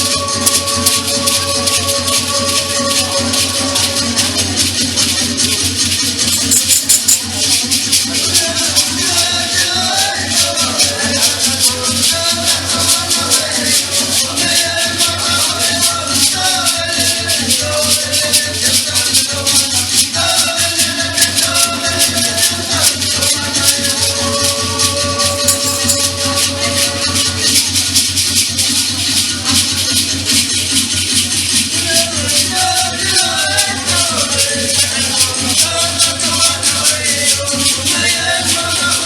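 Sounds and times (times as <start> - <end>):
fast shaker rhythm: 0.0 - 39.0.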